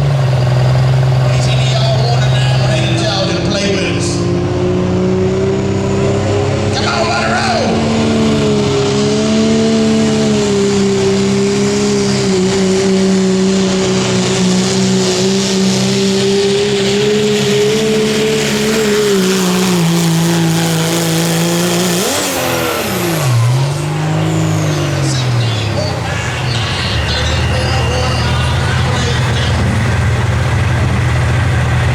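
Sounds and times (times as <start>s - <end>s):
diesel truck engine at high revs: 0.0s - 31.9s.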